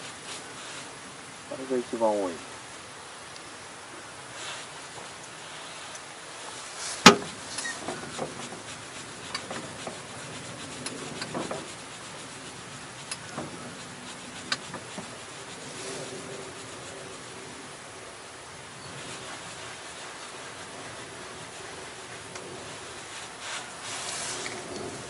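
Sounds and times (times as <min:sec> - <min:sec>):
light ticks and rubbing: 0:00.0 - 0:02.4, 0:04.3 - 0:25.0.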